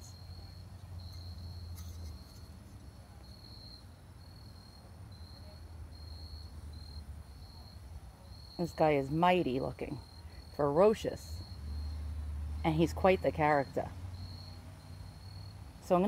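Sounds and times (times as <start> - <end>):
crickets chirping in trills: 0.0 - 16.0.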